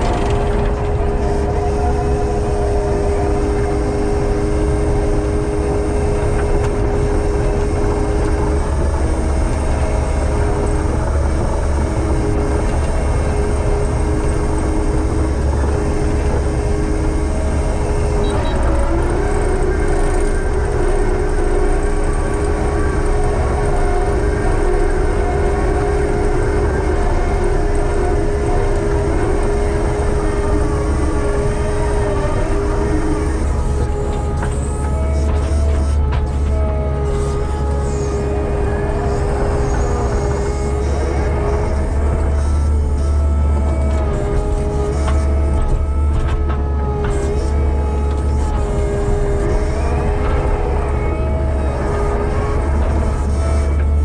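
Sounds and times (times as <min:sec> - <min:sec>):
constant high whine: 0:00.0 - 0:54.0
diesel machine running: 0:00.0 - 0:54.0
lower whine: 0:00.0 - 0:54.0.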